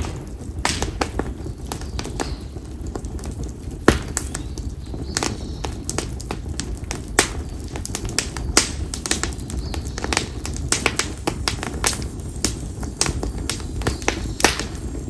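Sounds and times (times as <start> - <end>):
bonfire crackling and popping: 0.0 - 15.0
low rumble of flame: 0.0 - 15.0.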